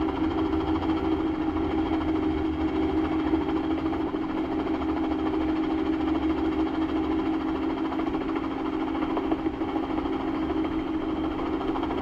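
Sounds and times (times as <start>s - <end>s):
helicopter engine and rotors droning: 0.0s - 12.0s.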